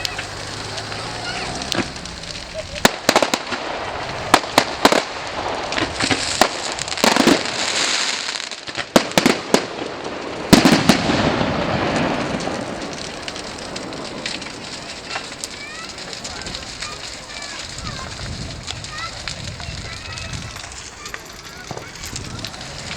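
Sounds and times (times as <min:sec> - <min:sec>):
fireworks bangs: 0:00.0 - 0:22.9
fireworks crackling: 0:00.0 - 0:22.9.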